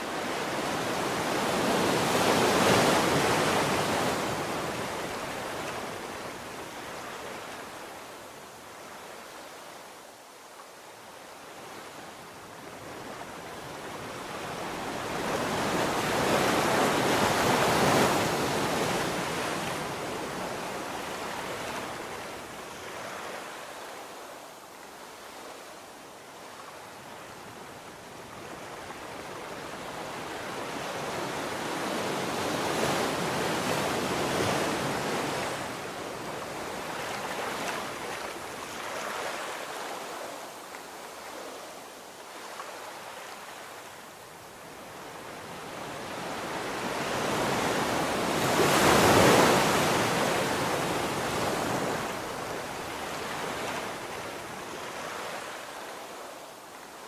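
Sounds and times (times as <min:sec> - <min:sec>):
ocean surf breaking on beach: 0:00.0 - 0:09.8, 0:11.3 - 0:57.0.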